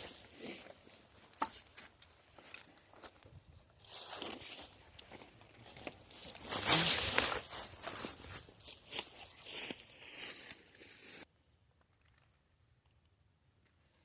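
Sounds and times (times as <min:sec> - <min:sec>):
rustling and crunching: 0:00.0 - 0:11.2.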